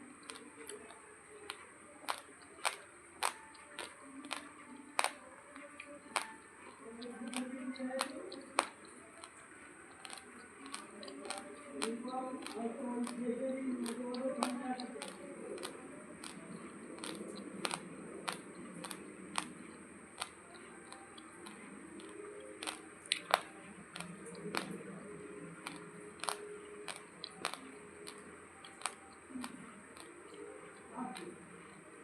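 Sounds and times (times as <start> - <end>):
soft mouth sounds: 0.2 - 31.9.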